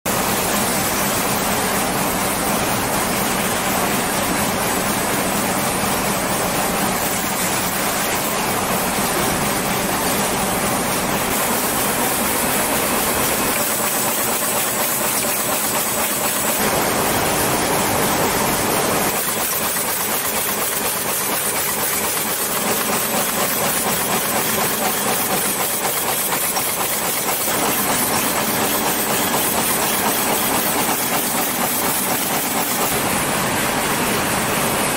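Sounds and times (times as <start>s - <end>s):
paper cup machinery running: 0.1s - 34.9s.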